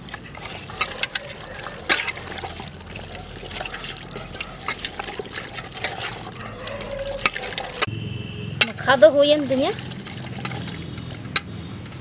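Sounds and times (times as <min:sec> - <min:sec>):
wet squelching of chicken kneaded: 0:00.0 - 0:07.9, 0:09.4 - 0:11.2.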